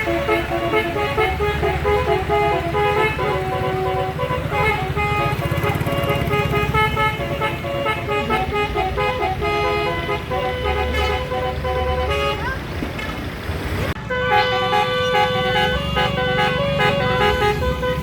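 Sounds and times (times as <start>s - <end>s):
bus horn playing melody: 0.0s - 12.6s, 14.0s - 18.0s
bus engine rumble: 0.0s - 18.0s.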